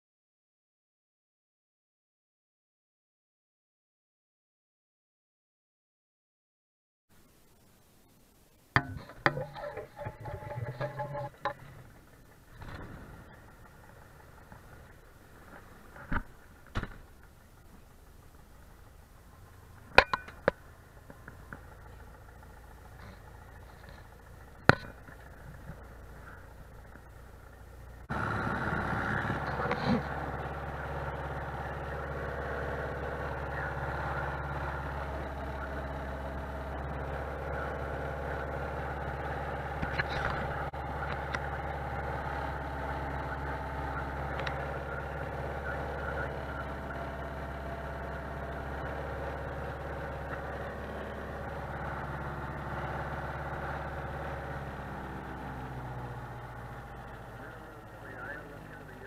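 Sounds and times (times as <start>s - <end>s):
plane engine idling: 8.7s - 59.0s.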